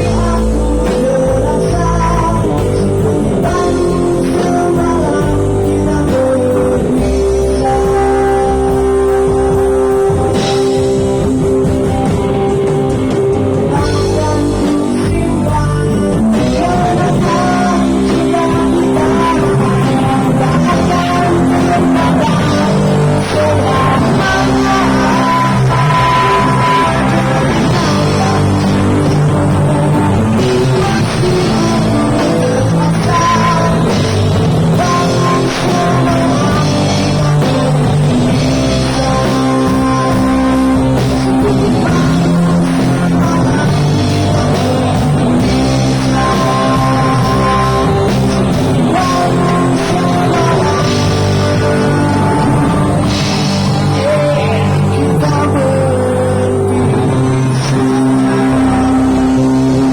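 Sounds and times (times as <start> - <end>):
drums: 0.0 - 59.9
guitar melodic line: 0.0 - 59.9
person singing: 0.0 - 59.9
rock band playing: 0.0 - 59.9.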